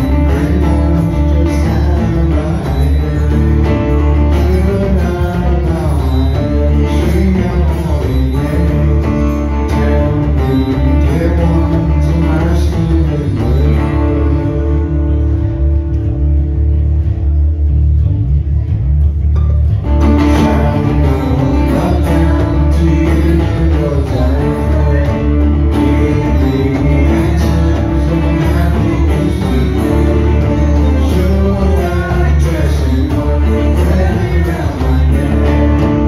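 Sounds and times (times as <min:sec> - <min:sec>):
man singing: 0:00.0 - 0:15.8, 0:20.0 - 0:36.0
strummed acoustic guitar: 0:00.0 - 0:36.0.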